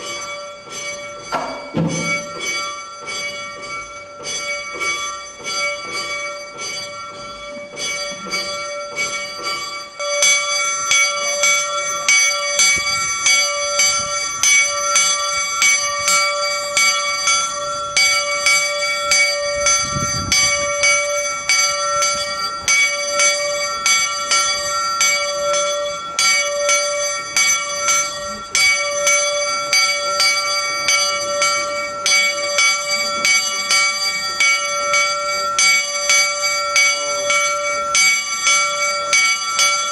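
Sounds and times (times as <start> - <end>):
bell tolling: 0.0 - 39.9.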